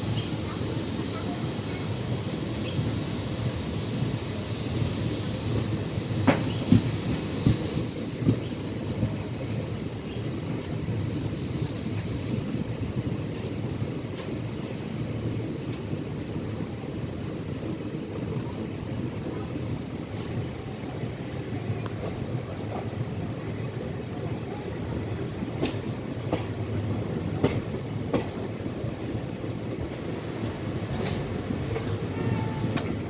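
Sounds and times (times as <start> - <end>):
train rumbling on track: 0.0 - 33.0.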